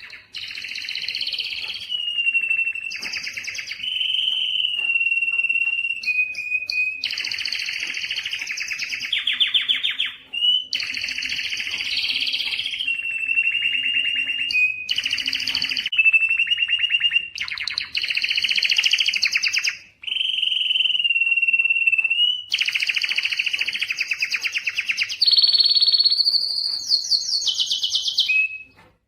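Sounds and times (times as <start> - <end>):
canary singing: 0.0 - 29.0.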